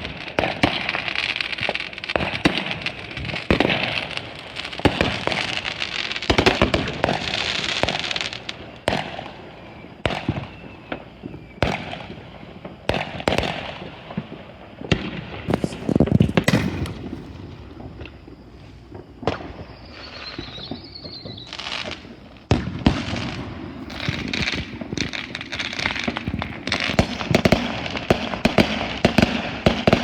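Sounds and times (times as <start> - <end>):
fireworks bangs and pops: 0.0 - 30.0
fireworks crackling hiss: 0.0 - 30.0.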